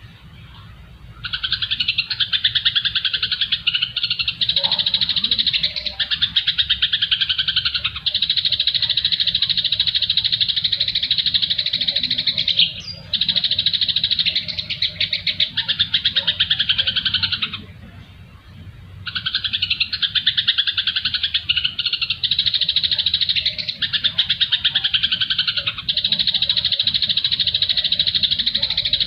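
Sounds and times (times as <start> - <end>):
songbirds chattering chirps: 0.0 - 29.0.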